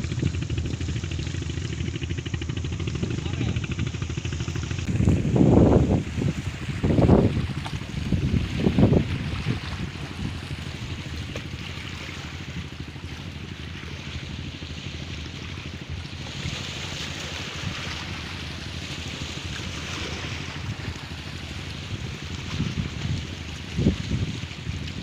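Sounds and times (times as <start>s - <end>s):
rough sea waves: 0.0s - 25.0s
wind buffeting microphone: 0.0s - 25.0s.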